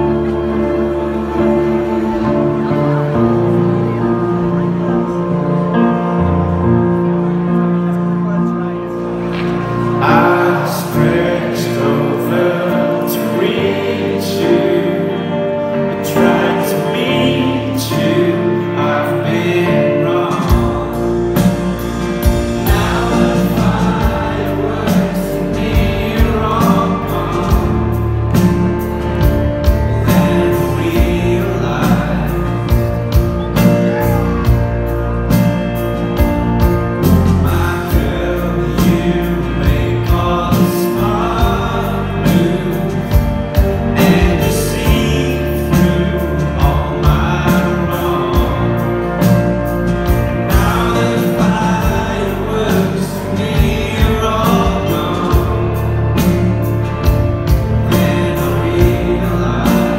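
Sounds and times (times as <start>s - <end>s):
electric guitars and bass: 0.0s - 59.9s
male lead vocal: 8.1s - 59.9s.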